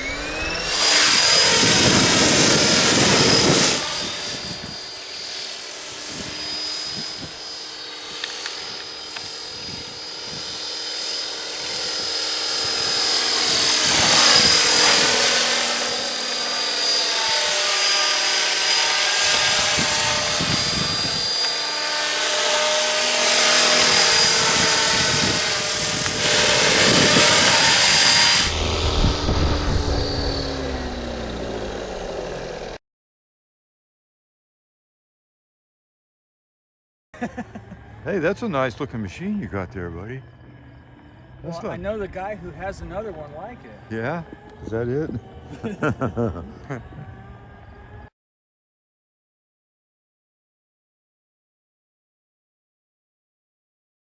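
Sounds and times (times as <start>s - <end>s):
model aircraft whine: 0.0s - 32.8s, 37.3s - 48.1s.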